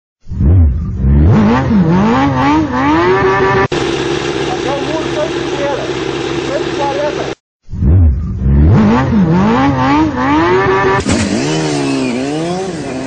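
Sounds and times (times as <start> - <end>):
motorcycle engine revving: 0.4 - 13.0.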